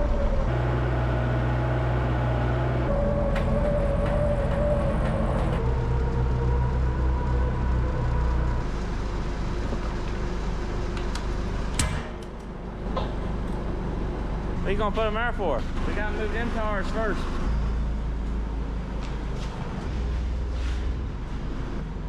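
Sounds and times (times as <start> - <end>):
forklift engine running: 0.0 - 22.0.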